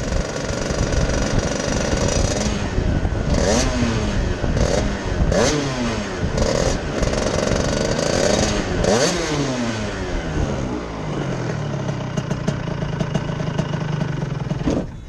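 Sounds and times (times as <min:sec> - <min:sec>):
two-stroke kart engine revving: 0:00.0 - 0:15.0.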